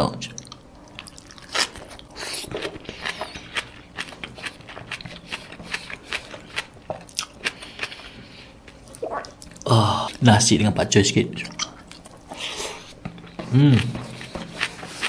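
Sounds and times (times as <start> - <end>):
person chewing crunchy greens: 0.4 - 10.2, 11.4 - 15.0.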